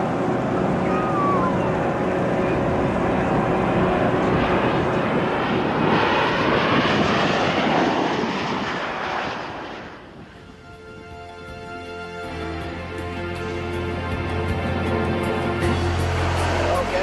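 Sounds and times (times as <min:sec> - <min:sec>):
propeller plane passing: 0:00.0 - 0:17.0.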